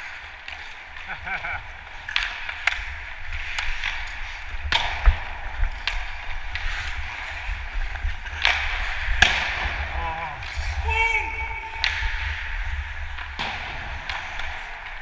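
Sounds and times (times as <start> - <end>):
hockey sticks and puck clacking: 0.0 - 15.0
skate blades scraping ice: 0.0 - 15.0.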